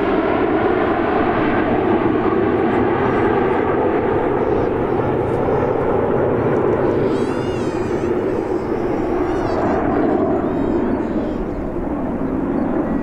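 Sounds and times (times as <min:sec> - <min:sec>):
jet engines rumbling overhead: 0:00.0 - 0:13.0.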